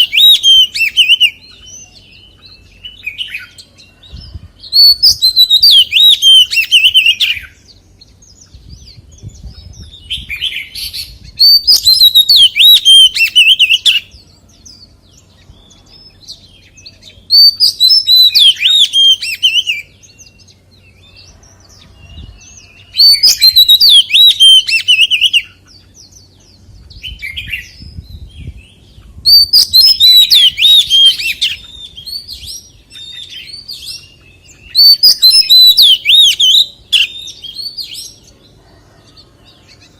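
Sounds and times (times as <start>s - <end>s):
bird singing whistles and warbles: 0.0s - 39.9s.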